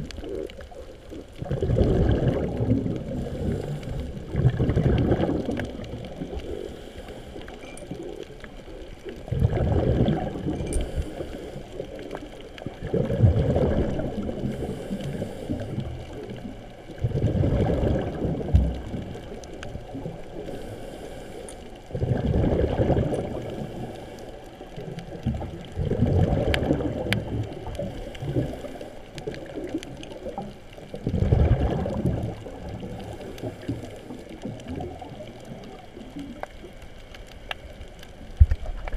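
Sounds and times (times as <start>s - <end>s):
diver exhaling bubbles: 0.0s - 6.8s, 9.1s - 21.1s, 21.9s - 24.0s, 24.8s - 36.4s
underwater water noise: 0.0s - 38.9s.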